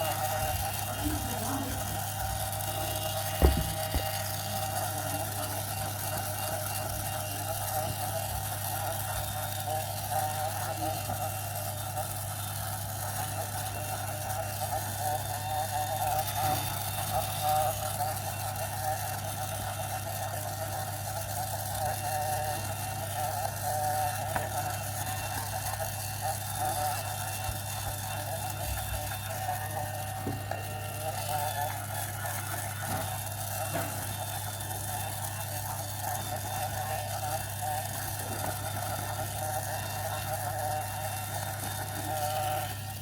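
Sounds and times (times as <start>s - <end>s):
small motor humming: 0.0s - 43.0s.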